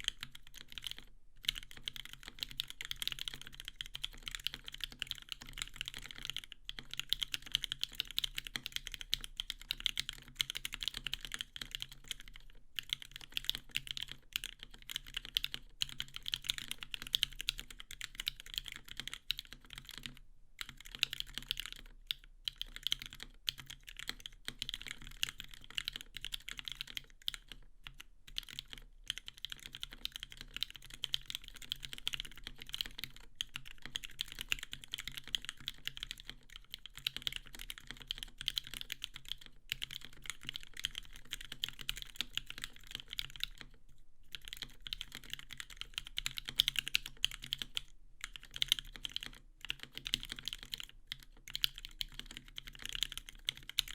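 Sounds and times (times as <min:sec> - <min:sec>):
fast typing on mechanical keyboard: 0:00.0 - 0:53.9.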